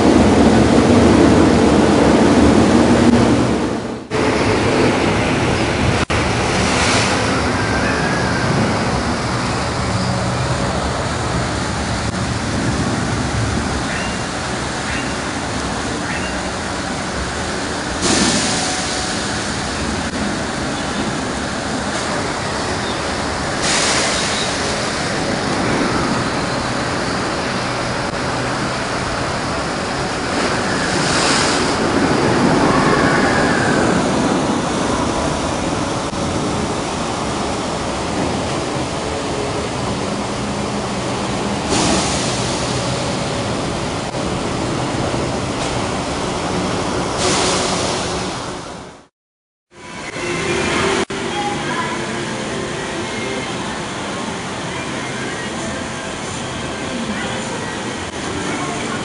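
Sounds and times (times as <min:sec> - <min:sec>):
water rushing through flume: 0:00.0 - 0:49.1, 0:49.8 - 0:59.0.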